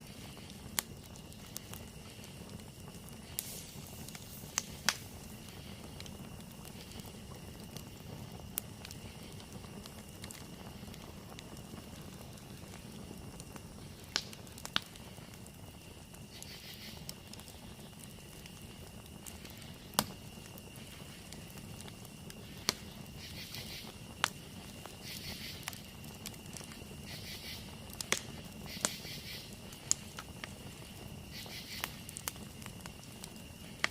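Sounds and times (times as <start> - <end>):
campfire crackling and popping: 0.0 - 33.9
insects droning: 0.0 - 33.9
pulsing insect calls: 0.0 - 33.9.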